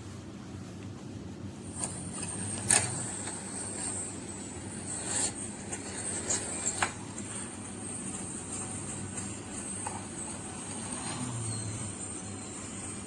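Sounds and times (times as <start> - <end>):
high-pitched whine: 1.7 - 13.0.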